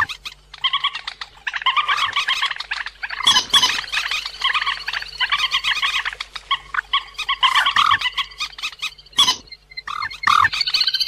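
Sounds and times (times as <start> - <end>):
rail birds chattering: 0.0 - 11.0.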